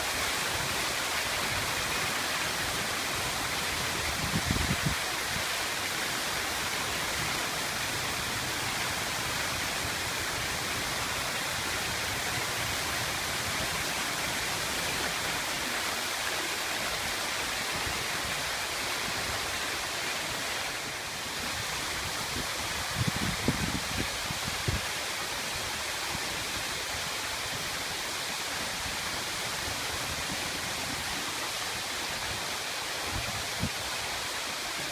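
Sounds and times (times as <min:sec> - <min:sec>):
fountain water splashing: 0:00.0 - 0:34.9.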